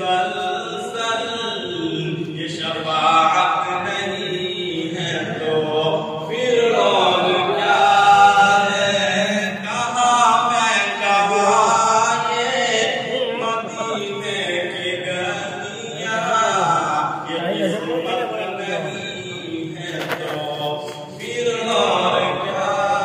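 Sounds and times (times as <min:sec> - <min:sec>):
man chanting devotional song: 0:00.0 - 0:23.0.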